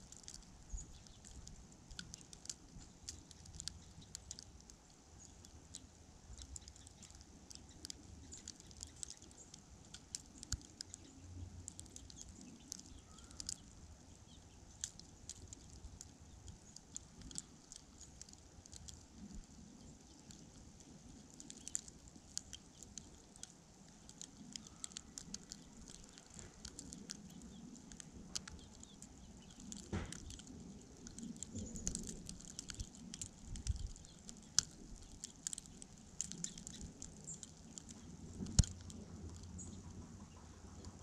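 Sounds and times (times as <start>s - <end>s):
faint low rumble: 0.0s - 41.0s.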